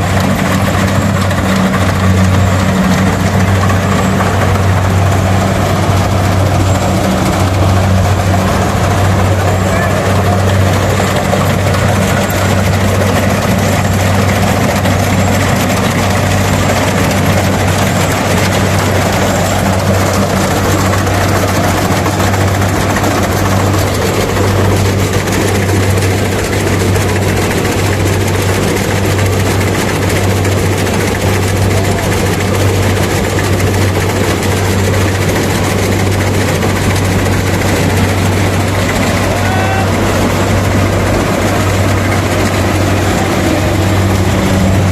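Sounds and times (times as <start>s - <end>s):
heavy engine running steadily: 0.0s - 44.9s.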